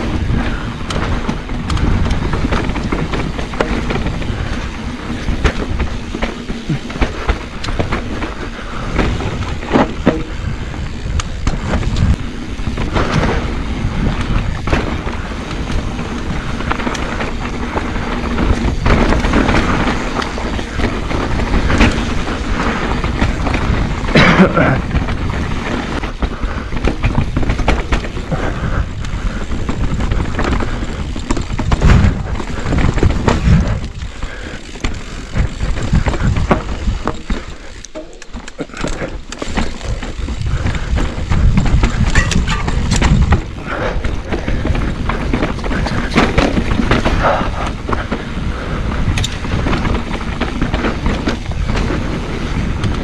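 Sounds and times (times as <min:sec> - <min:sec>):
bike clattering over bumps: 0:00.0 - 0:53.0
bike tyres rumbling on dirt: 0:00.0 - 0:53.0.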